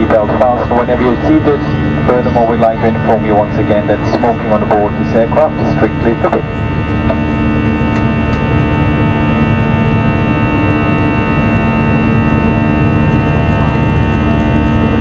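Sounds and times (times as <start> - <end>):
jet engine roar in cabin: 0.0 - 15.0
whining engine tones: 0.0 - 15.0.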